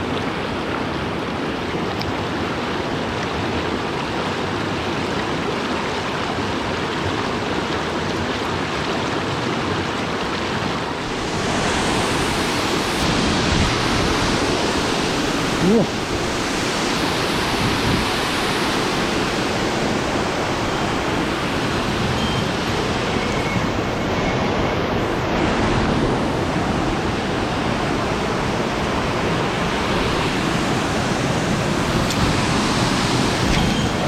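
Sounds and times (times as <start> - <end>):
stream water over rocks: 0.0 - 34.0.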